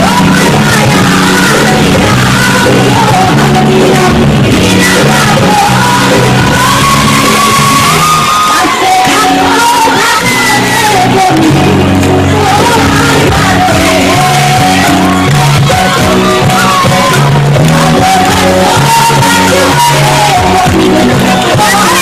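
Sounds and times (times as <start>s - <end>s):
band backing with bass: 0.0s - 22.0s
crowd shouting and singing along: 0.0s - 22.0s
woman singing pop song: 0.0s - 22.0s.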